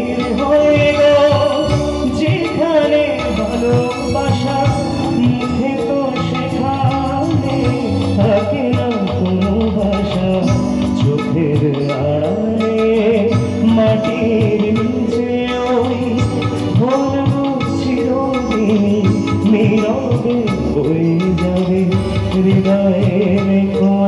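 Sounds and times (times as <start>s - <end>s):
live band playing: 0.0s - 24.0s
man singing into microphone: 0.0s - 24.0s.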